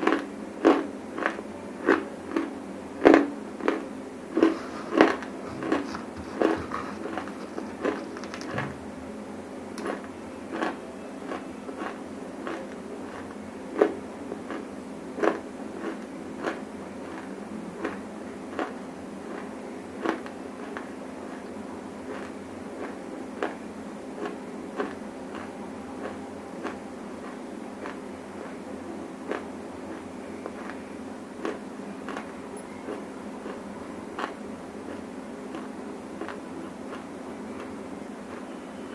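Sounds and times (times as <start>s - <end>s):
clay being chewed crunching: 0.0s - 8.7s, 9.8s - 30.8s, 31.4s - 38.6s
steady low hum: 0.0s - 38.9s.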